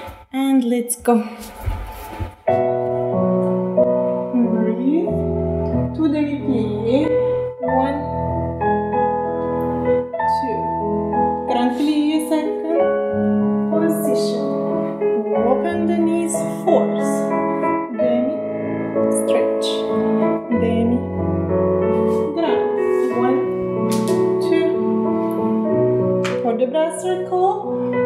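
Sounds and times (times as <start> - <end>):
piano music: 1.9 - 28.0.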